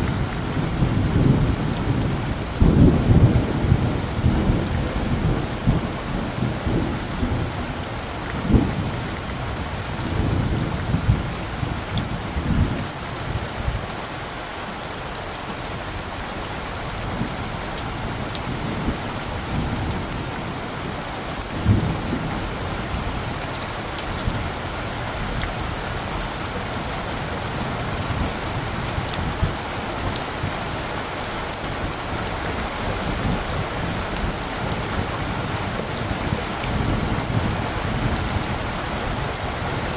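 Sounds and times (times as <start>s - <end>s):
raindrops ticking close by: 0.0s - 39.9s
steady rain falling: 0.0s - 39.9s.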